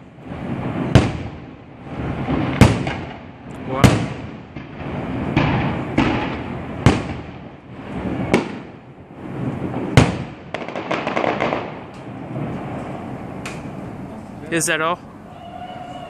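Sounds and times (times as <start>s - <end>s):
rapid firework cracks: 0.0s - 13.8s
sharp firework bangs: 0.0s - 14.0s
firework booms: 0.0s - 14.2s.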